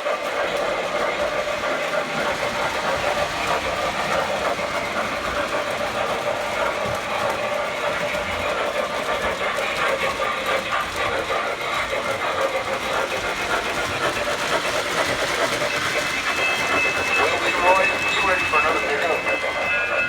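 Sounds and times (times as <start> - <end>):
model train motors whirring: 0.0 - 20.0.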